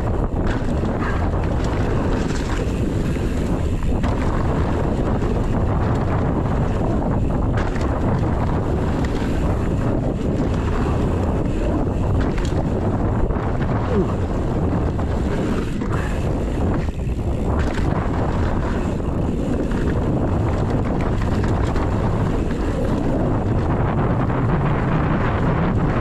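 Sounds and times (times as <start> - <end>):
tyres rolling on dirt trail: 0.0 - 26.0
wind buffeting microphone: 0.0 - 26.0.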